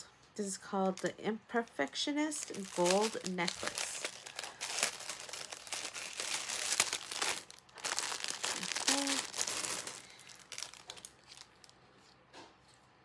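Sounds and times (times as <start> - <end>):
plastic packaging crinkling: 0.8 - 11.8.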